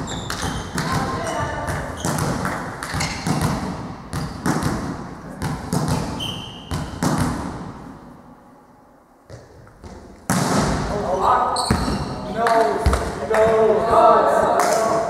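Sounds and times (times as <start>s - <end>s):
volleyball bouncing on hall floor: 0.0s - 8.1s, 9.3s - 15.0s.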